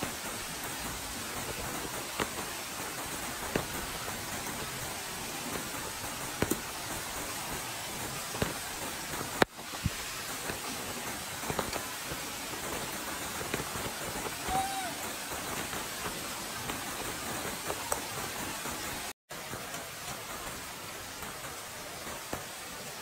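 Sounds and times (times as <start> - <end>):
raindrops clicking: 0.0 - 22.8
light rain hissing: 0.0 - 23.0.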